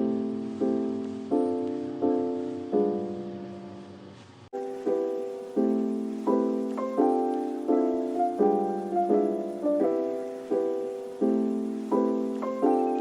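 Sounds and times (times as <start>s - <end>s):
gentle piano chords: 0.0s - 13.0s.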